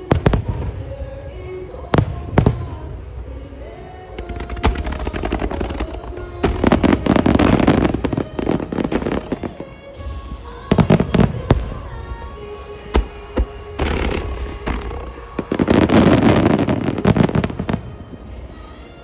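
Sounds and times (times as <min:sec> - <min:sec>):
fireworks bursting and crackling: 0:00.0 - 0:19.0
music: 0:00.0 - 0:19.0.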